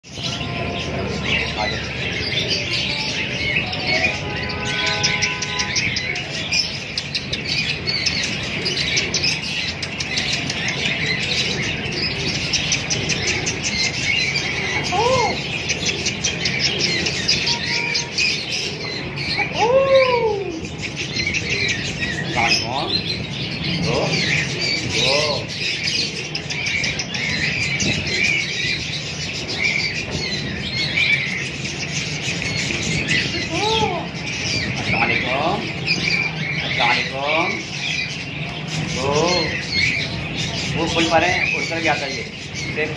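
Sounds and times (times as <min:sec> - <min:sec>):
caged birds chirping: 0:00.0 - 0:42.9.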